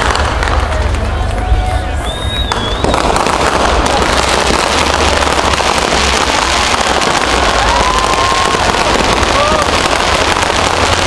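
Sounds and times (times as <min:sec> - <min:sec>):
fireworks crackling: 0:00.0 - 0:11.0
firework whistle: 0:01.4 - 0:11.0.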